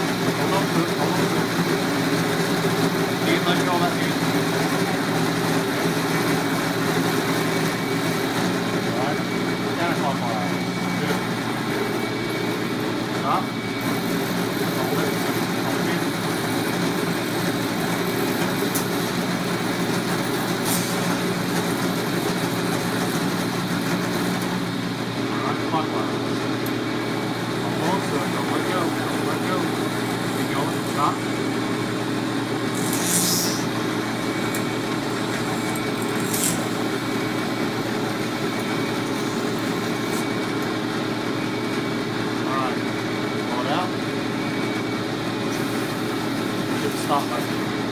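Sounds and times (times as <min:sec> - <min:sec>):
milling machine motor hum: 0:00.0 - 0:47.9.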